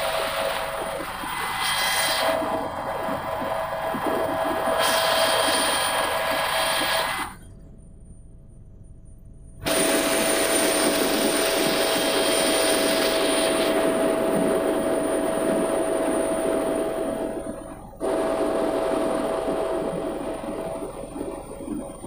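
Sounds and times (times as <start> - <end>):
rotor and engine rush: 0.0 - 22.0
turbine whine: 0.0 - 22.0.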